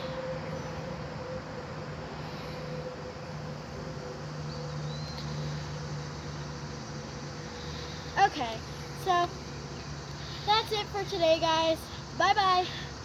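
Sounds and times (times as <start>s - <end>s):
background hum and hiss: 0.0s - 13.0s
faint constant tone: 0.0s - 13.0s.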